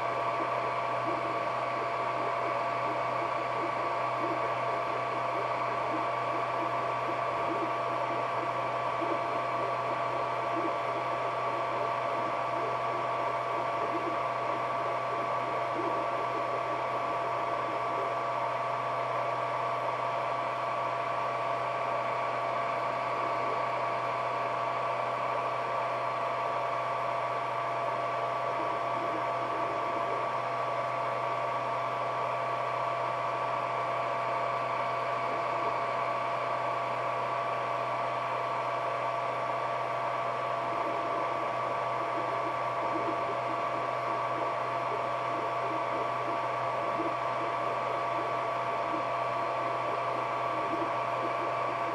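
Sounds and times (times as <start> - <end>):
printer humming and whining: 0.0 - 51.9.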